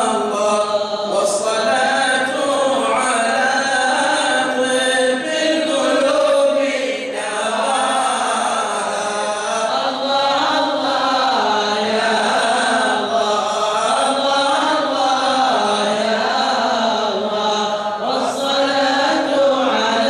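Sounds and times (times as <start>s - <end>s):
men chanting devotional song: 0.0s - 20.0s.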